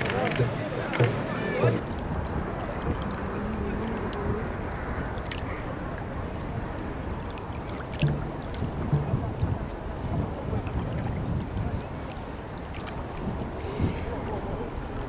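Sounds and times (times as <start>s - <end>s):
rush of air and water: 0.0s - 15.0s.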